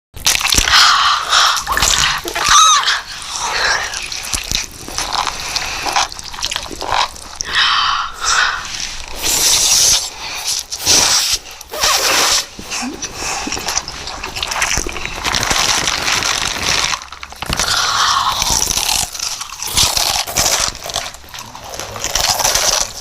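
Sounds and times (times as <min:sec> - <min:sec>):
wet chewing and slurping: 0:00.2 - 0:23.0.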